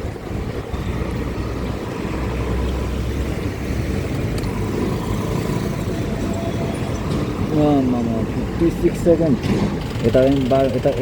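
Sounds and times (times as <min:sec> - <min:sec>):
low traffic rumble: 0:00.0 - 0:11.0
motor vehicles passing: 0:00.0 - 0:11.0.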